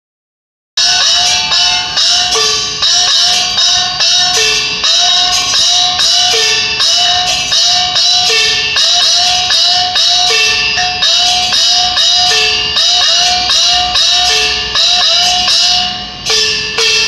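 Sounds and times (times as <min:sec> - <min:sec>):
bright cymbals: 0:00.8 - 0:17.0
lower gong strikes: 0:00.8 - 0:17.0.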